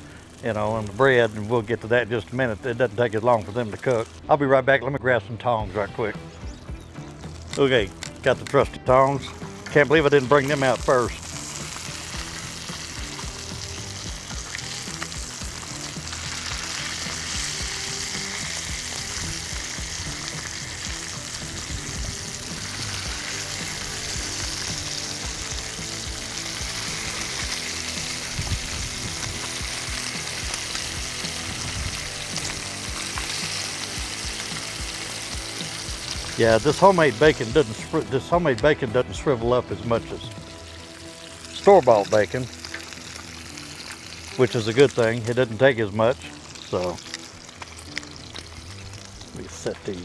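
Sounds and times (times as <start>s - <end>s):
food sizzling on a griddle: 0.0s - 4.3s, 6.2s - 50.0s.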